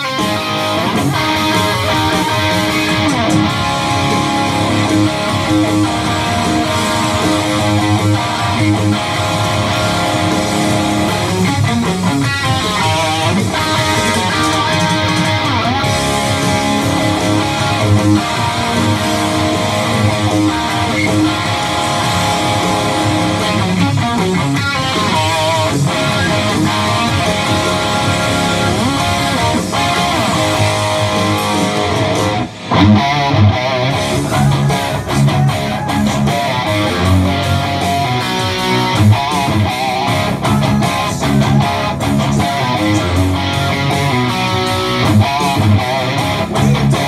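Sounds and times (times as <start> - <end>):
electric guitar through amplifier: 0.0 - 47.0.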